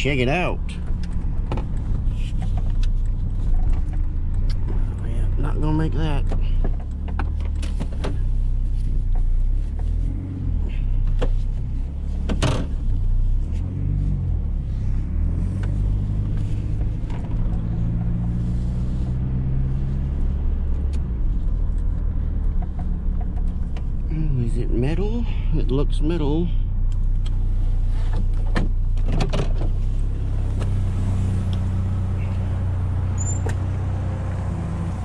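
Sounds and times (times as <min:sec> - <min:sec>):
engine and road rumble: 0:00.0 - 0:35.0.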